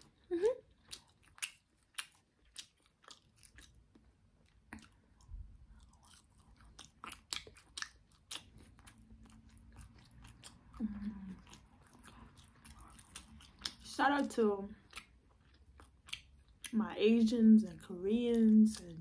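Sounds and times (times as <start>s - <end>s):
person chewing food: 0.0s - 16.8s.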